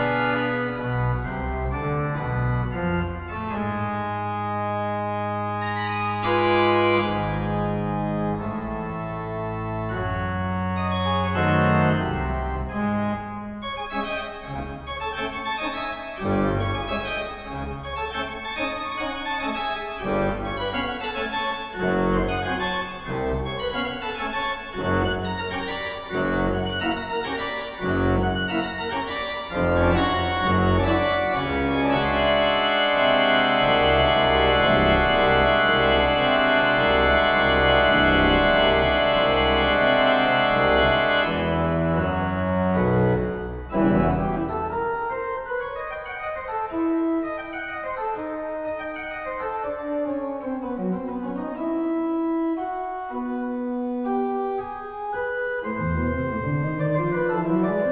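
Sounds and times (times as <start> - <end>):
pipe organ playing: 0.0 - 57.9.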